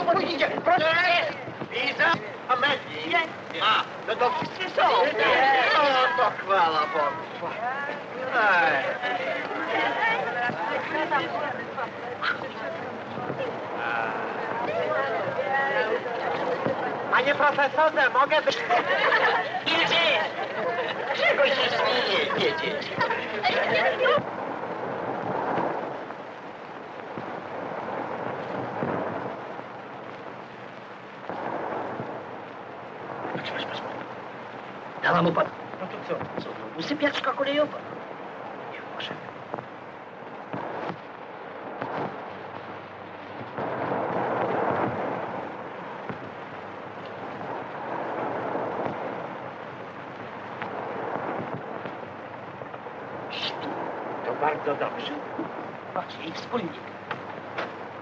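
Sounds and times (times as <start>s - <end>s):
old film soundtrack hiss: 0.0s - 58.0s.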